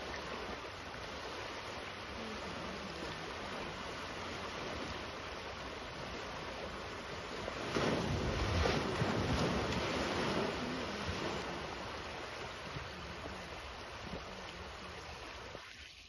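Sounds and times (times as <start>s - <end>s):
elephant splashing in water: 0.0s - 15.8s.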